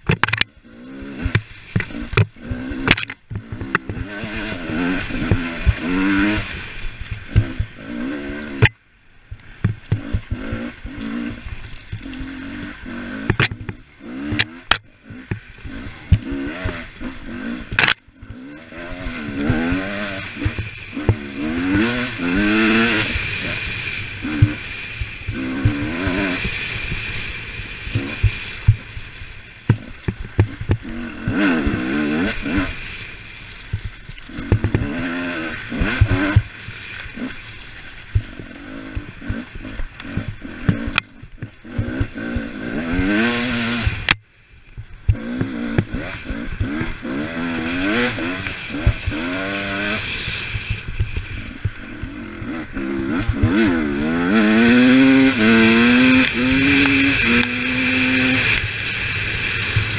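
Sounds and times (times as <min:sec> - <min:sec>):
dirt bike engine revving: 0:00.0 - 0:44.3, 0:45.0 - 0:59.9.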